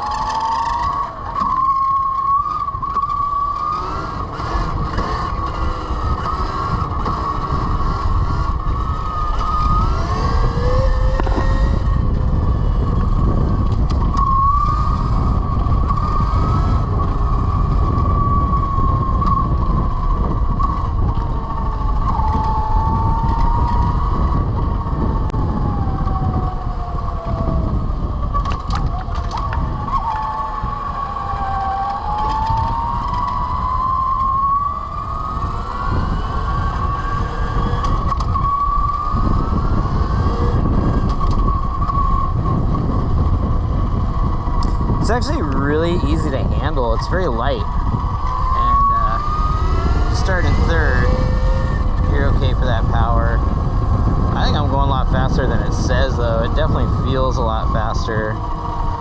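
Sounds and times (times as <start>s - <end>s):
electric motorcycle motor whining: 0.0s - 59.0s
wind and road rumble: 0.0s - 59.0s.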